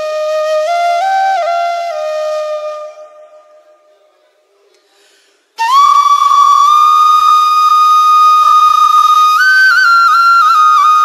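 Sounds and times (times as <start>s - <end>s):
solo flute: 0.0s - 4.0s, 5.6s - 11.0s.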